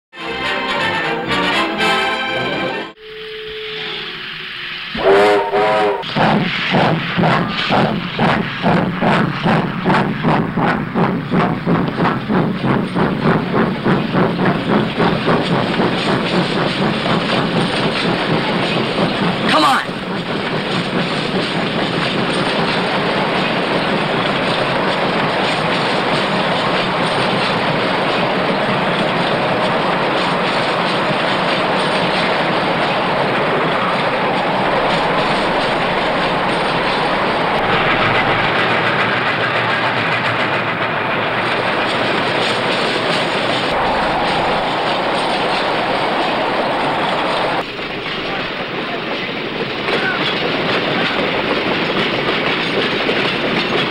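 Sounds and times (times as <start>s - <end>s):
train wheels clattering on rails: 6.0s - 53.9s.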